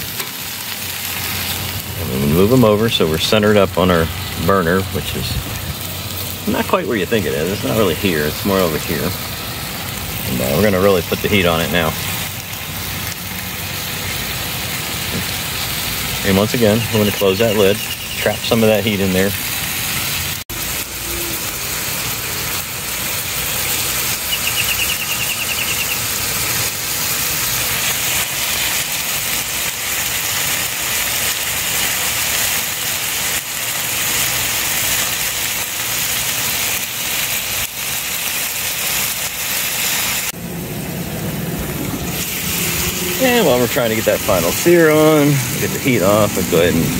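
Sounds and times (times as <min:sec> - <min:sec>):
steaks sizzling on a griddle: 0:00.0 - 0:40.8, 0:41.6 - 0:46.9.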